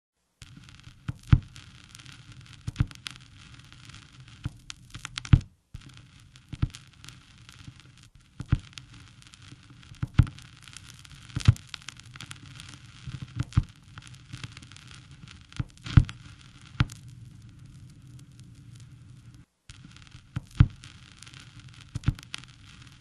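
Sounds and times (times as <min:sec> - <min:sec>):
crackling with sharp pops: 0:00.4 - 0:23.0
steady hiss: 0:00.4 - 0:23.0.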